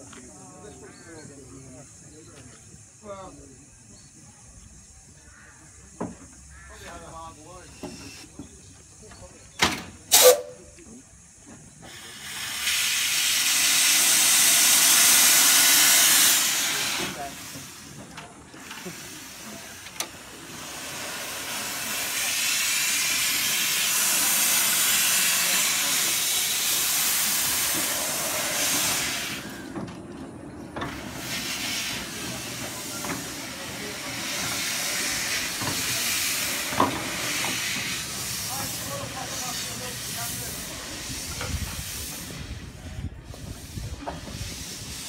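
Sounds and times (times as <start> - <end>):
steam hissing from locomotive: 1.3 - 29.9, 30.5 - 45.0.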